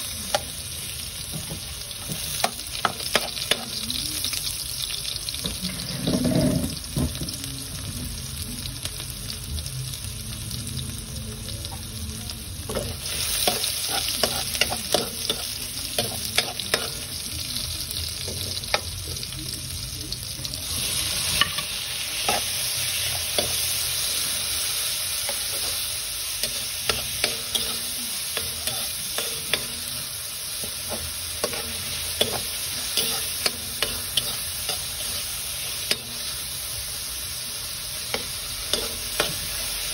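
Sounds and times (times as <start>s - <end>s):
garlic and onion frying in oil: 0.0s - 39.9s.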